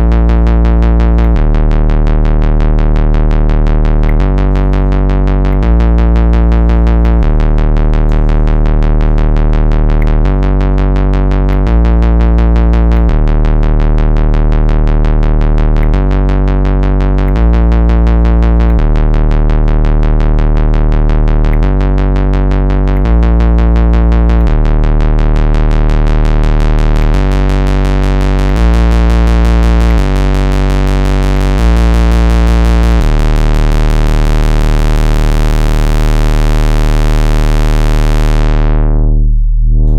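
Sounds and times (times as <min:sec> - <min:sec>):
synthesizer sequenced riff: 0:00.0 - 0:39.9.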